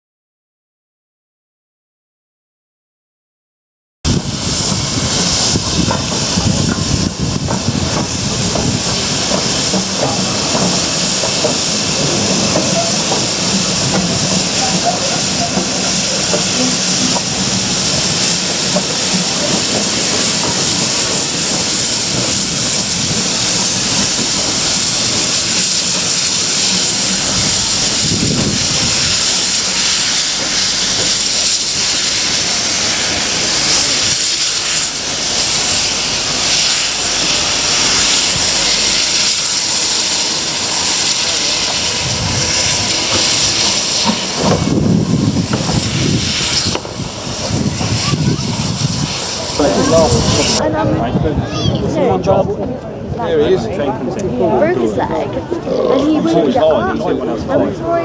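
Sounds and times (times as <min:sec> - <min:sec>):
steam locomotive hissing steam: 0:04.1 - 0:58.0.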